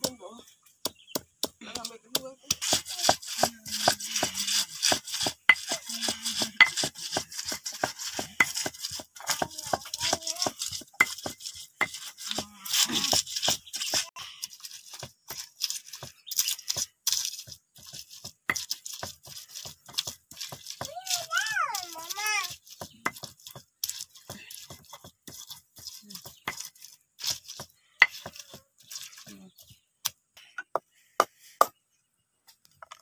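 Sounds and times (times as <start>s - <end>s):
gritty scraping: 0.0s - 31.8s
stone pestle pounding in mortar: 0.8s - 14.1s, 14.8s - 29.1s.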